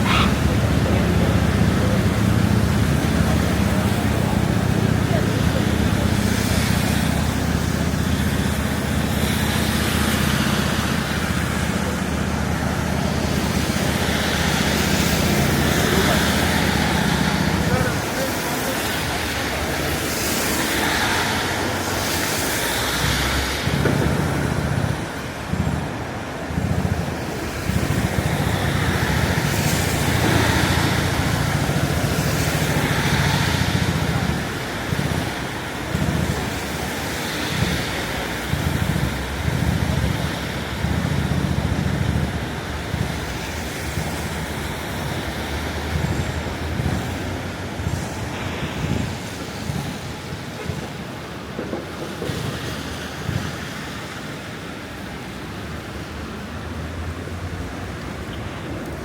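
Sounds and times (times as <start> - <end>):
low traffic rumble: 0.0 - 59.0
tyres hissing on wet road: 0.0 - 59.0.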